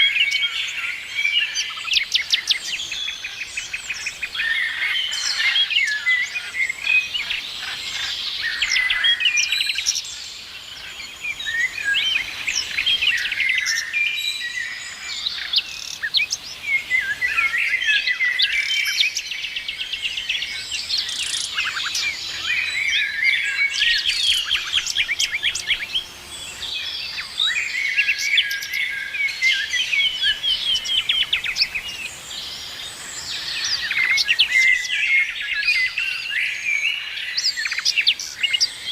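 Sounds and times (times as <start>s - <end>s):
small birds chirping and whistling: 0.0s - 38.9s.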